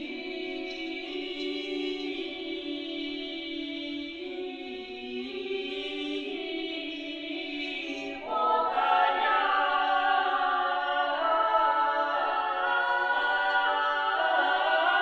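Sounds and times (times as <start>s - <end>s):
women's ensemble singing a cappella: 0.0s - 15.0s.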